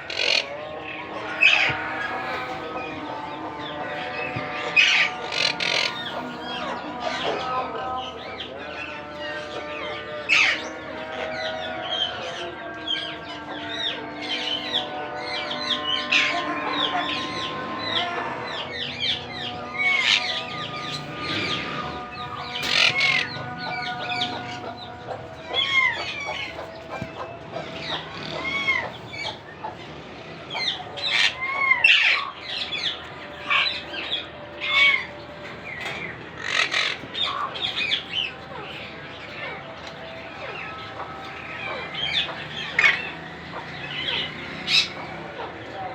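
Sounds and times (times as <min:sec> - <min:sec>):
parakeets harsh chirps and squawks: 0:00.0 - 0:45.8.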